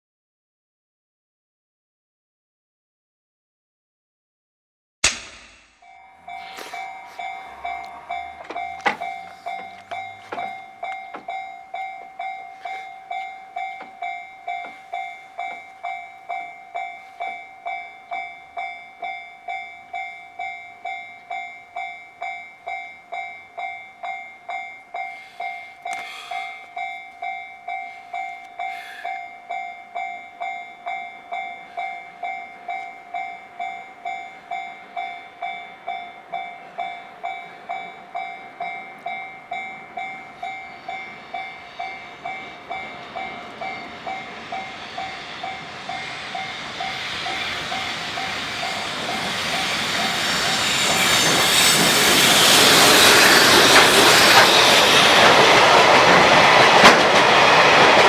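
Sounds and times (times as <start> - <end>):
level-crossing warning bell dinging: 5.8 - 58.0.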